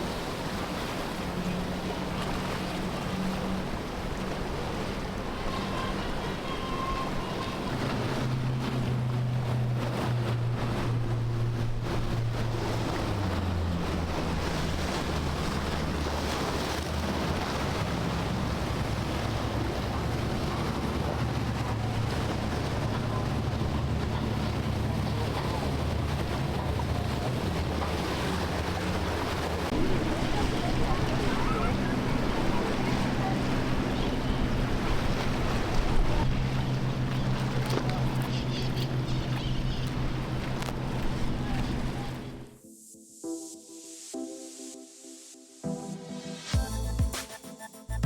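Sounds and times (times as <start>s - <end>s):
boat engine running: 0.0s - 42.7s
waves washing: 0.0s - 48.0s.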